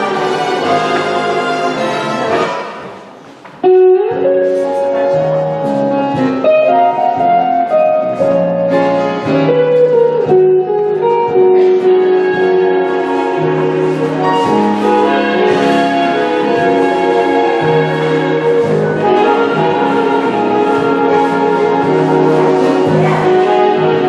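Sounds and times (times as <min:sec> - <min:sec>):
ballroom dance music: 0:00.0 - 0:24.0.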